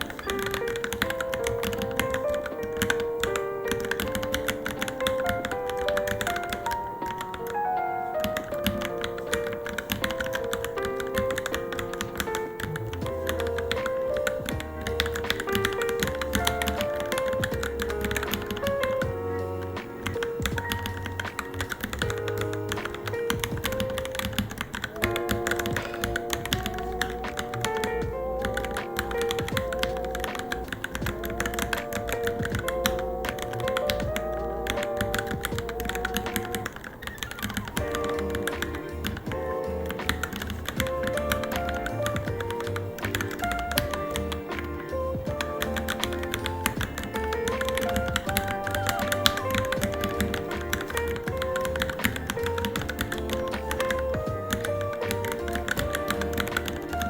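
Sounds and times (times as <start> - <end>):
background music with steady beat: 0.0 - 57.0
mechanical keyboard typing: 0.0 - 57.0.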